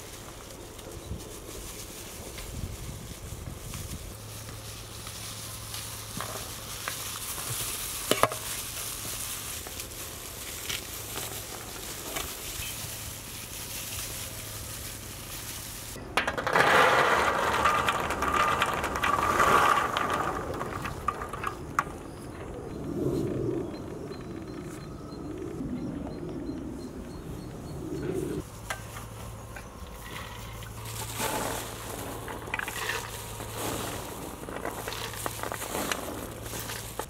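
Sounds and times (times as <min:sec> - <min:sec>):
seeds crackling and pattering into tray: 0:00.0 - 0:22.3, 0:28.7 - 0:37.0.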